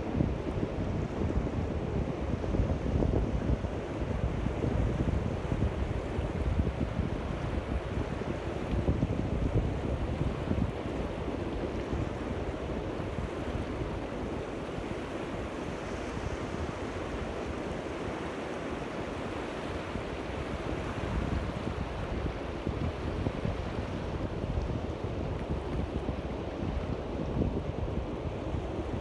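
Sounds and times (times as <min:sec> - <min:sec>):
small waves washing onto shore: 0:00.0 - 0:29.0
wind rumbling on microphone: 0:00.0 - 0:29.0.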